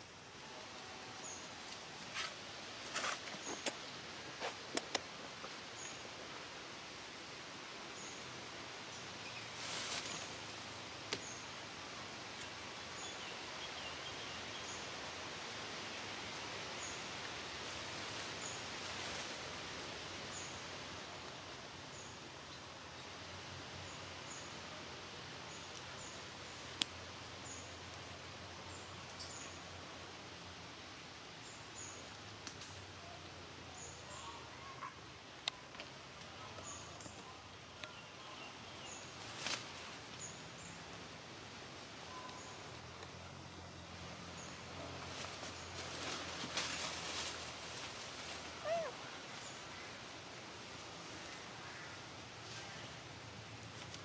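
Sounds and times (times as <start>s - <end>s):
leaves rustling: 0.0s - 54.0s
steady hiss: 0.0s - 54.0s.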